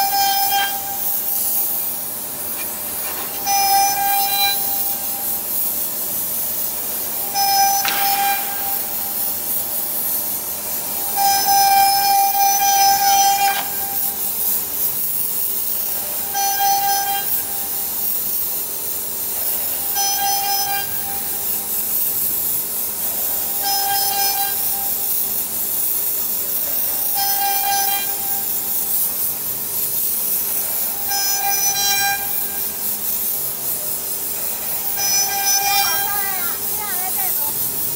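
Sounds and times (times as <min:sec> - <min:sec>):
pitched machine whine: 0:00.0 - 0:37.9.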